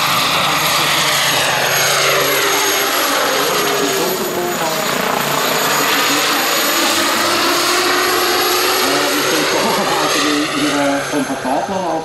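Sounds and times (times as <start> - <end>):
model helicopter turbine whine: 0.0 - 12.0
rotor noise: 0.0 - 12.0.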